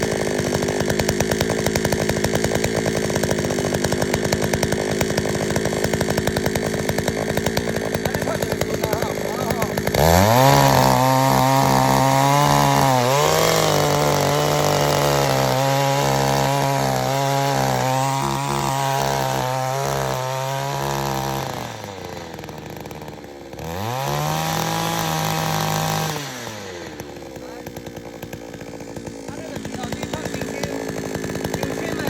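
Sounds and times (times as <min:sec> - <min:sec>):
small petrol engine revving: 0:00.0 - 0:32.0.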